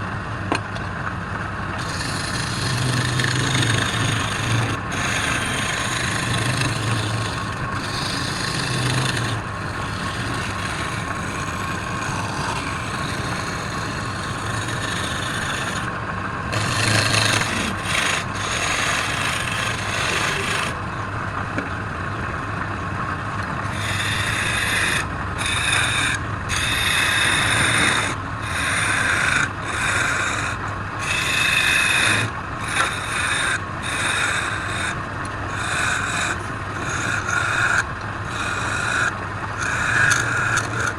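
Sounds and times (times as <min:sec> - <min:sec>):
tool scraping spinning wood: 0:01.7 - 0:20.8, 0:23.6 - 0:40.9
wood lathe motor hum: 0:01.7 - 0:20.8, 0:23.6 - 0:40.9.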